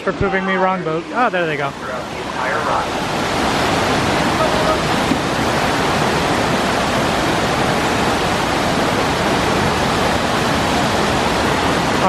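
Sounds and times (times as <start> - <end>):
rushing churning water: 0.0 - 12.0.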